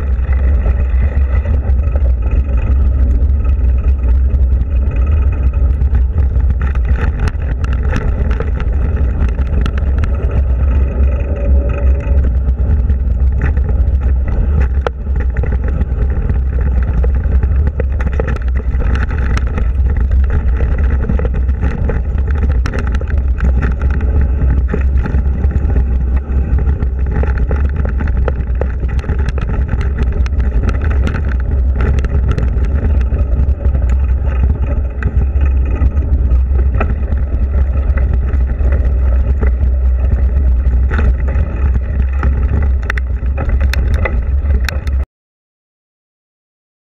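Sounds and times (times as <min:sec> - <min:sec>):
bike clicks and rattles: 0:00.0 - 0:45.0
wind and trail rumble: 0:00.0 - 0:45.1.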